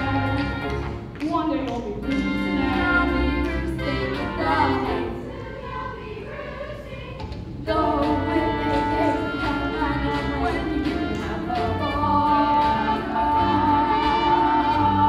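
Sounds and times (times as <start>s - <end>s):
singing with musical accompaniment: 0.0s - 15.0s.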